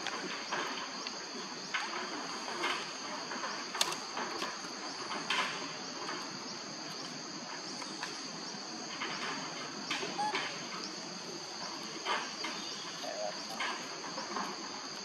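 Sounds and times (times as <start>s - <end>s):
high-pitched insect chorus: 0.0s - 15.0s
scraping rustles: 0.0s - 15.0s.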